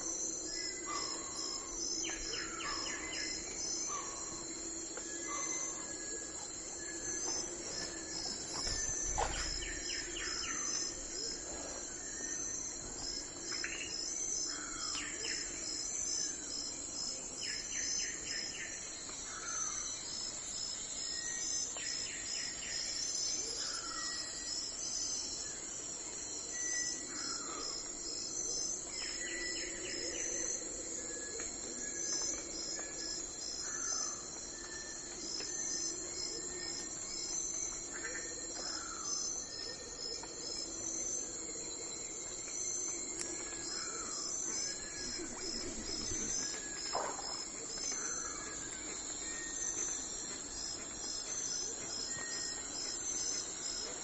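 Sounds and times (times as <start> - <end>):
insect chorus with pulsing chirps: 0.0 - 54.0.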